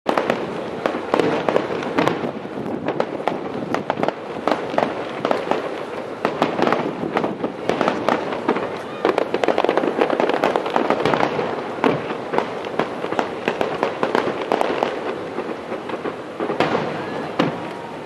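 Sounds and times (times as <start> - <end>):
fireworks bangs and crackles: 0.1 - 18.0.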